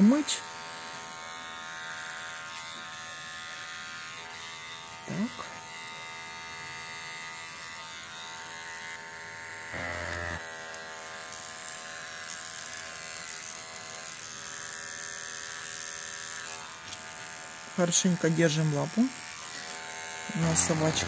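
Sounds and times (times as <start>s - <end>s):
pet hair trimmer buzzing: 0.0s - 21.0s.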